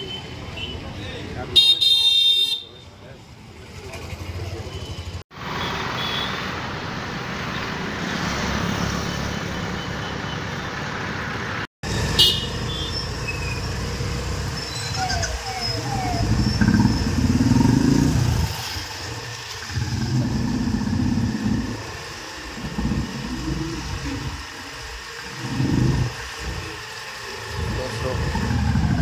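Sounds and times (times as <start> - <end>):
steady road noise: 0.0 - 29.0.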